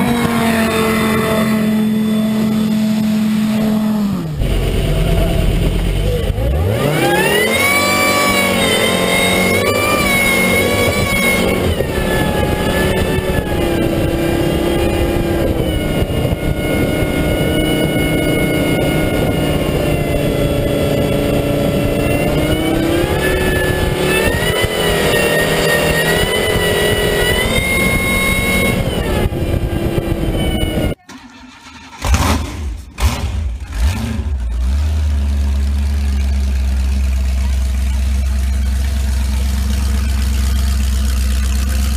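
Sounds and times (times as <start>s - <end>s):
boat engine at low revs: 0.0s - 31.0s, 32.0s - 41.9s
speedboat engine revving: 0.0s - 41.9s.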